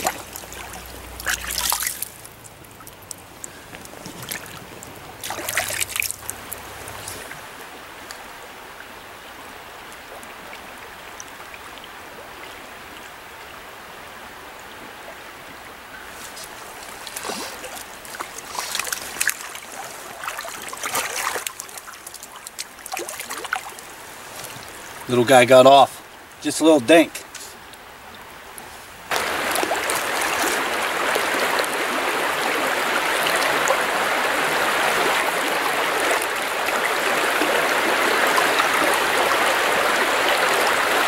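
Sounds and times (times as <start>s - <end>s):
water splashing: 0.0s - 8.4s, 15.9s - 41.0s
stream flowing: 0.0s - 41.0s.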